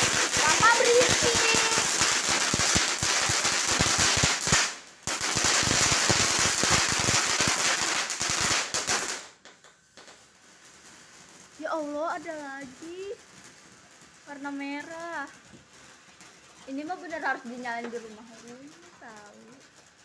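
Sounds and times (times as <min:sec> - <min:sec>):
firework fountain crackling: 0:00.0 - 0:20.0.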